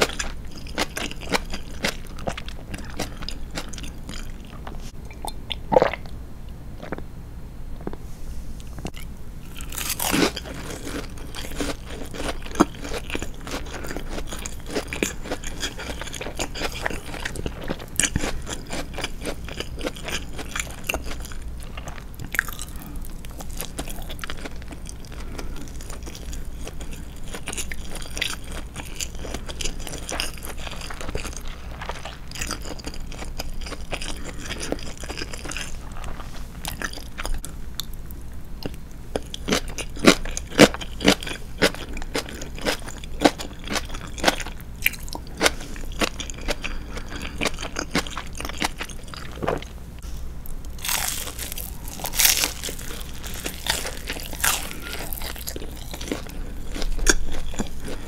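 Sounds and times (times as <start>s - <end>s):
person chewing food: 0.0s - 6.2s, 6.8s - 7.0s, 8.6s - 58.0s.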